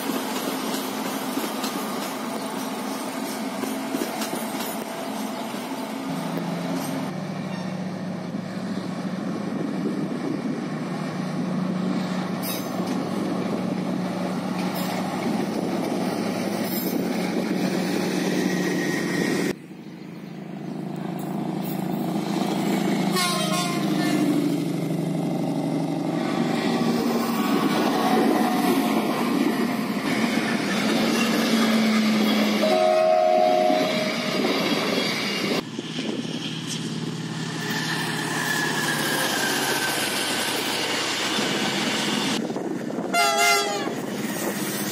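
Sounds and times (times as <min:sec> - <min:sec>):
train passing close by: 0:00.0 - 0:44.9
train rumbling with low hum: 0:00.0 - 0:44.9.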